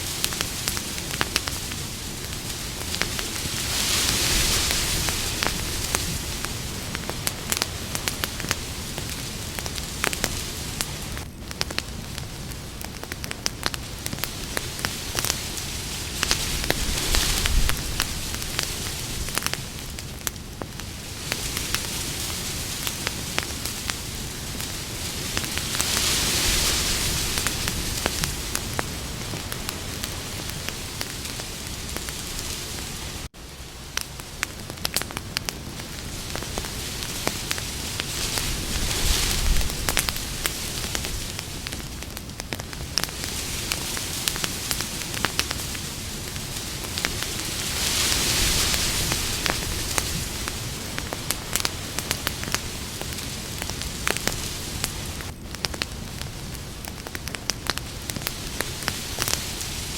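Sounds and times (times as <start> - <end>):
campfire crackling and hissing: 0.0 - 59.9.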